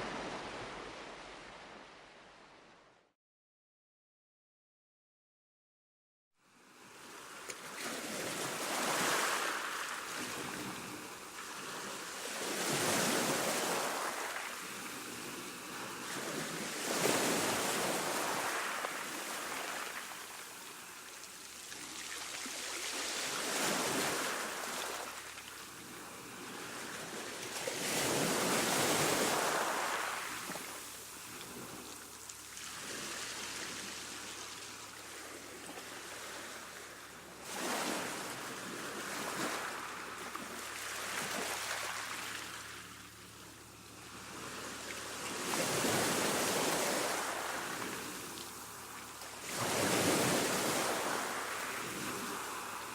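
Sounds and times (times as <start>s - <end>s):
small waves washing onto shore: 0.0s - 2.6s, 6.7s - 52.9s.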